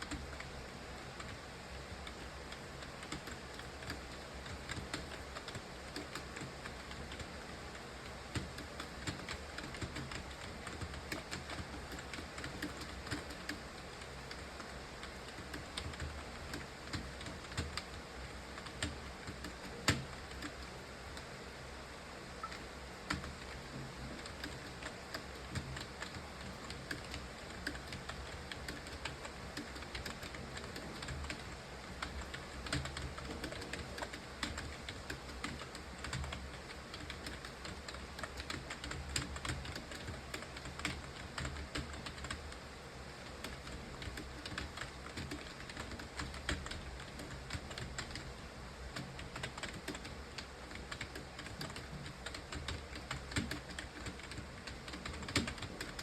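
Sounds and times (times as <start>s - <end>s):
low steady hum: 0.0s - 56.0s
keyboard typing: 1.1s - 21.3s, 22.4s - 42.6s, 43.2s - 56.0s.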